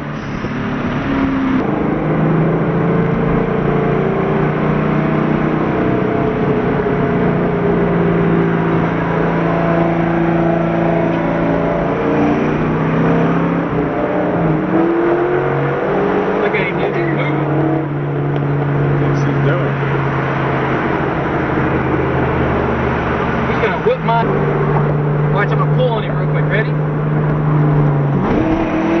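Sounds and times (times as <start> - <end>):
car engine and exhaust droning: 0.0 - 29.0.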